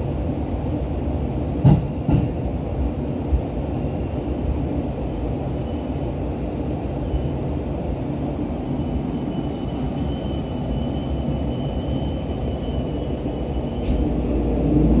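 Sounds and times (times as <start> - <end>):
train cabin rumble: 0.0 - 15.0.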